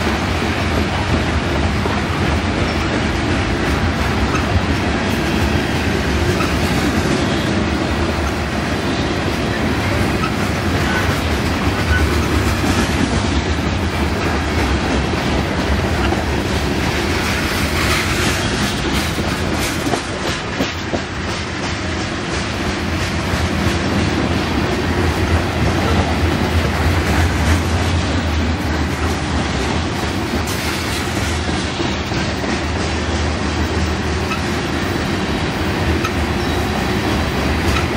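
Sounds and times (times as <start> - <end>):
train wheels rumbling on rail: 0.0 - 37.9.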